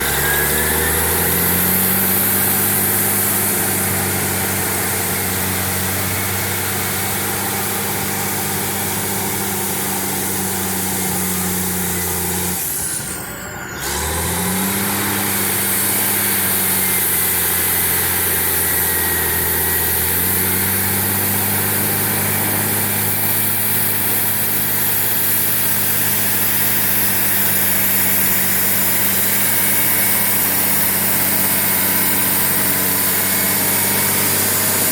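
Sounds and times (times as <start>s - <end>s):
bulldozer diesel engine droning: 0.0s - 34.9s.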